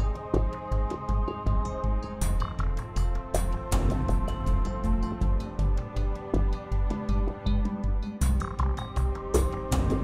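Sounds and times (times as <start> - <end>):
background music with bass pulse: 0.0 - 10.0.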